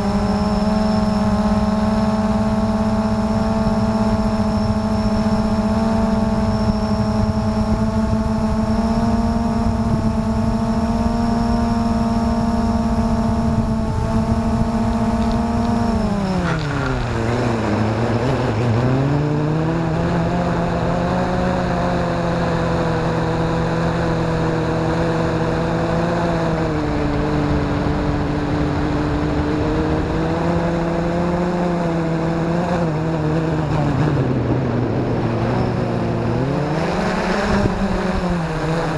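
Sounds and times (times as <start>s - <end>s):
quadcopter motors buzzing: 0.0s - 38.9s.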